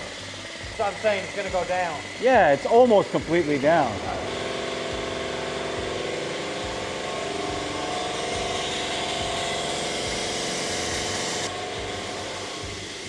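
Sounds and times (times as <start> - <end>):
vacuum brake bleeder hissing hum: 0.0 - 13.0.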